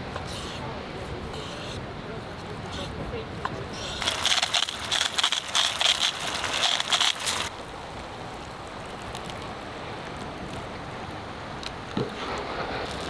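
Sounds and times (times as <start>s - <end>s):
quiet steady hiss: 0.0s - 13.0s.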